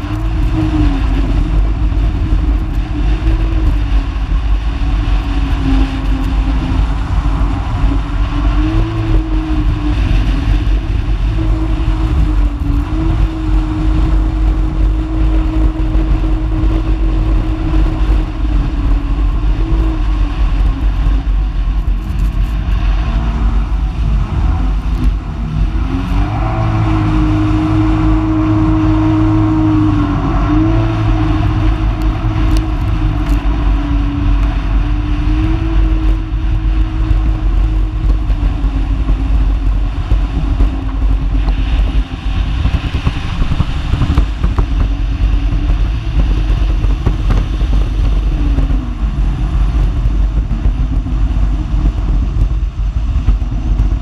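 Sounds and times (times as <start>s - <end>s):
watercraft engine running: 0.0s - 54.0s
wind and water rushing: 0.0s - 54.0s.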